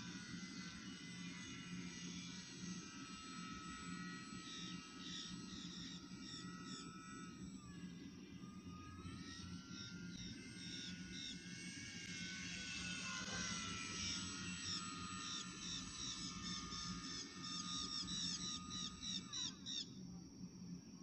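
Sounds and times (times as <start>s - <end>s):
model airplane motor whining: 0.0s - 20.7s.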